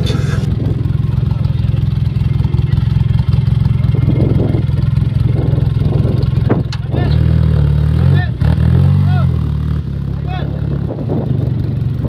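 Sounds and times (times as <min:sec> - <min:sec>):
buggy engine idling: 0:00.0 - 0:12.0.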